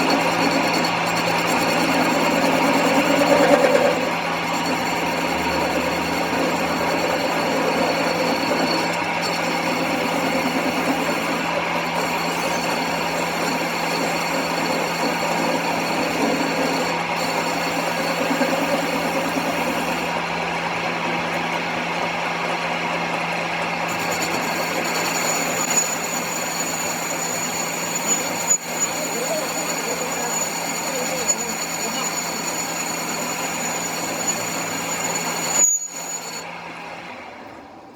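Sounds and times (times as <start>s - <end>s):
workshop machine running: 0.0s - 37.9s.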